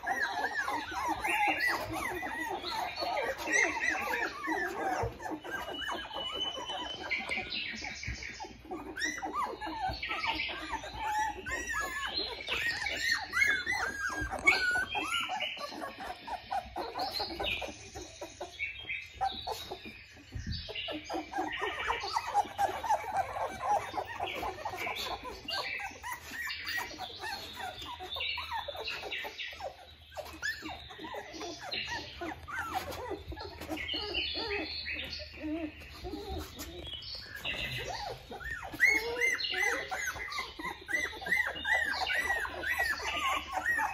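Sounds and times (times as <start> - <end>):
puppies squeaking and whimpering: 0.0 - 43.9.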